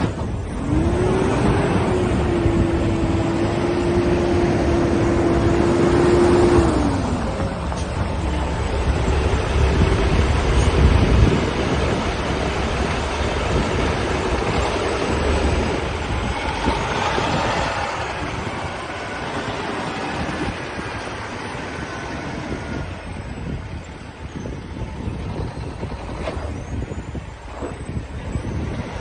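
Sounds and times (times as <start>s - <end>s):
vehicle rumble: 0.0s - 29.0s
wind noise: 0.0s - 29.0s.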